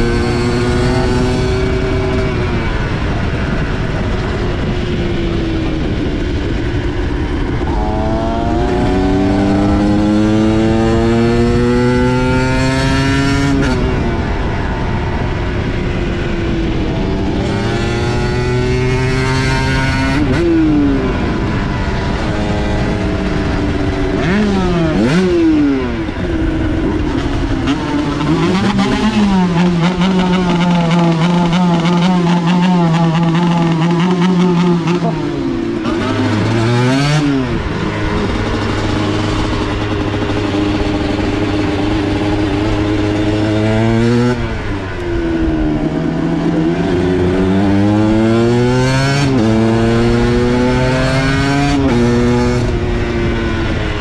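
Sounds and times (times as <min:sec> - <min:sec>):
two-stroke engine accelerating: 0:00.0 - 0:54.0
wind on microphone: 0:00.0 - 0:54.0.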